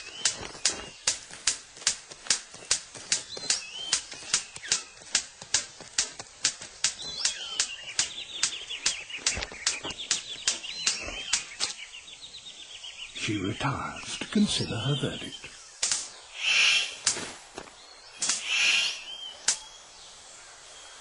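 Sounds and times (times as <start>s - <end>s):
high bird chirping: 0.0s - 1.3s, 2.5s - 5.1s, 6.1s - 17.0s, 17.8s - 21.0s
bird sharp clicks: 0.0s - 12.2s, 14.0s - 17.3s, 18.1s - 19.9s.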